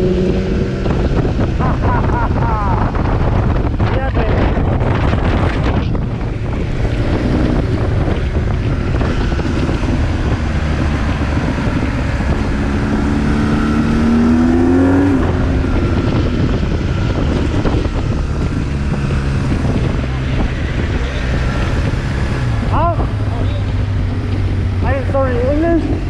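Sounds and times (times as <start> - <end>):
motorcycle engine accelerating: 0.0 - 26.0
wind rushing over microphone: 0.0 - 26.0.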